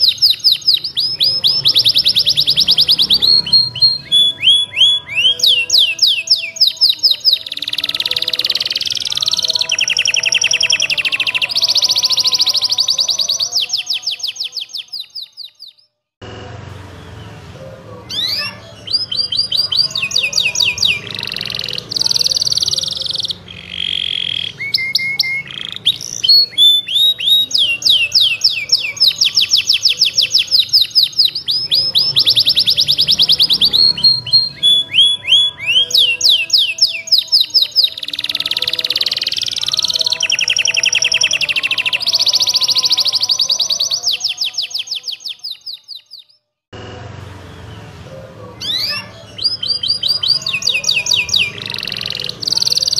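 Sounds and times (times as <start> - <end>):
canary singing trills: 0.0 - 15.9, 17.0 - 46.4, 47.4 - 52.9.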